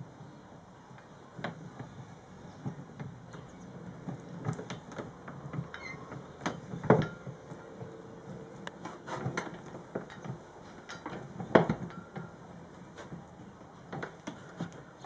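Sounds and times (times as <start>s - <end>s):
gearing clicking and clattering: 1.0s - 15.0s.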